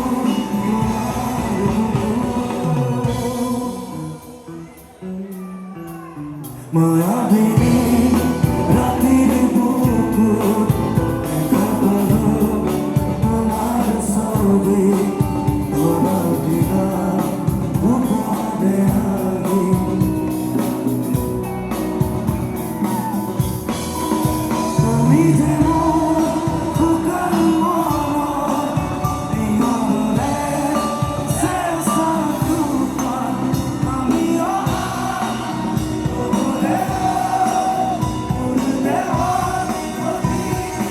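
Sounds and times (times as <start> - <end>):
person singing: 0.0 - 21.5, 24.2 - 40.9
live rock band: 0.0 - 40.9.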